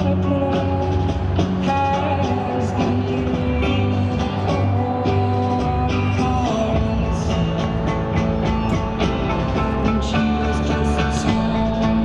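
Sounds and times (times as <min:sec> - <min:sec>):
marching band playing: 0:00.1 - 0:12.0.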